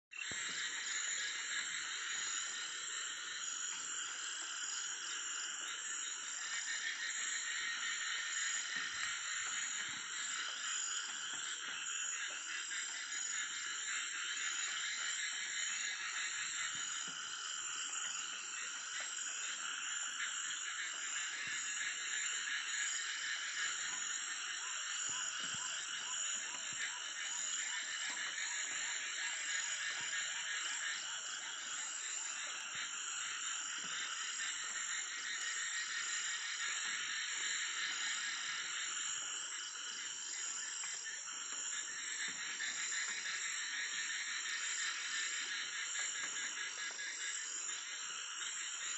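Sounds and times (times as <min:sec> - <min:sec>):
frog chorus: 0:00.1 - 0:48.9.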